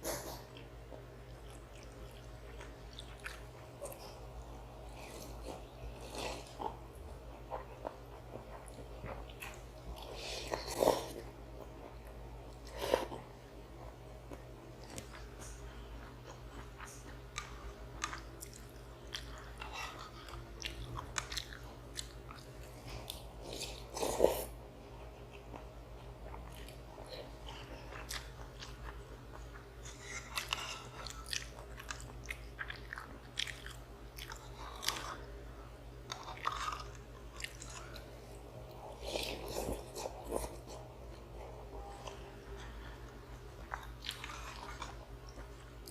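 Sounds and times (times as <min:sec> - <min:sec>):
person chewing food: 0:00.1 - 0:35.3, 0:36.0 - 0:45.9.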